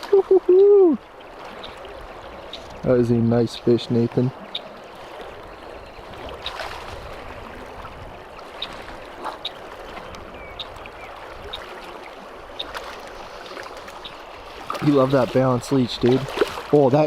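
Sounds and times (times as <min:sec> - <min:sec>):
water rushing in a creek: 0:00.0 - 0:17.0.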